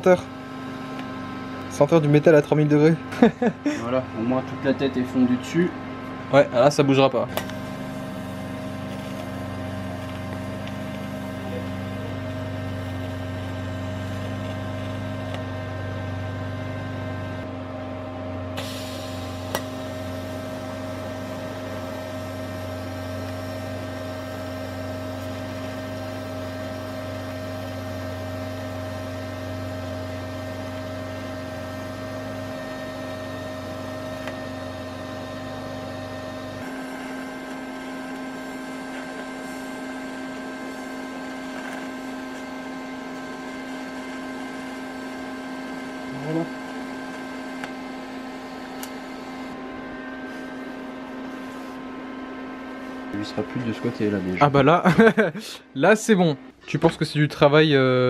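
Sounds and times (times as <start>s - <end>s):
welding arc humming and buzzing: 0.0s - 55.3s.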